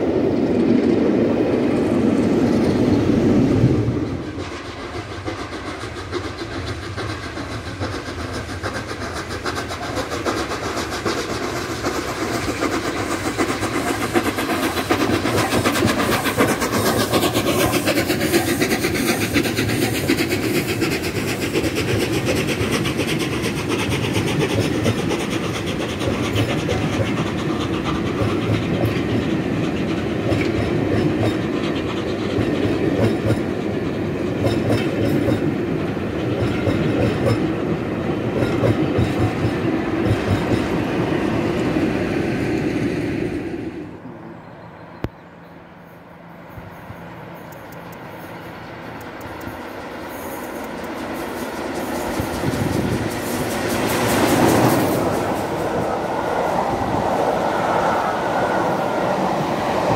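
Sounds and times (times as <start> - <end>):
train wheels clickety-clack: 0.0 - 43.4, 46.1 - 59.9
train hiss sweep: 1.7 - 44.2, 45.4 - 59.9.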